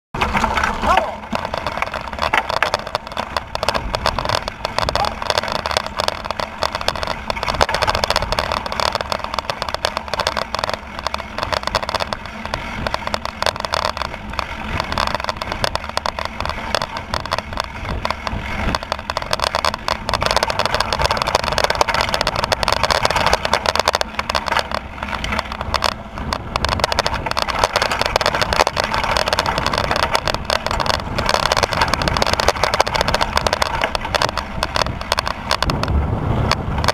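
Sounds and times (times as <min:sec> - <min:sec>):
bike rattling: 0:00.2 - 0:36.9
bike tyres rumbling on gravel: 0:00.2 - 0:36.9.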